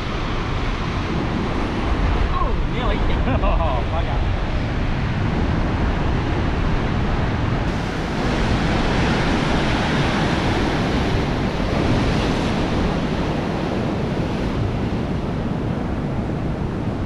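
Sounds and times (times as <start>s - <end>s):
surf breaking: 0.0s - 15.4s
wind buffeting microphone: 0.0s - 17.0s.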